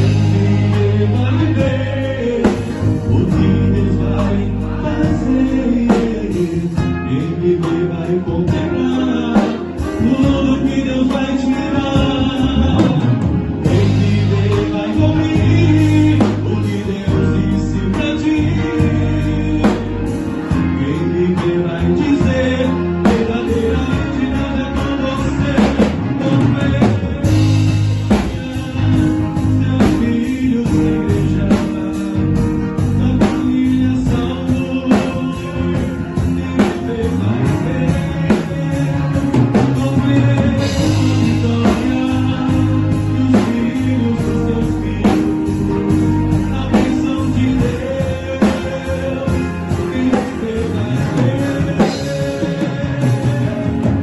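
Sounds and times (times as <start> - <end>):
band playing with drums and guitar: 0.0 - 54.0.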